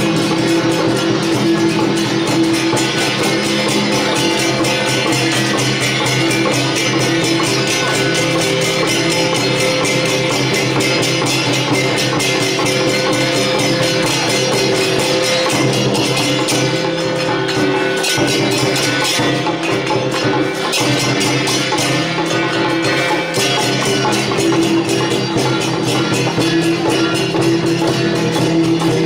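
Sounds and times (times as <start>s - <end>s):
hand cymbals and percussion beats: 0.0s - 29.0s.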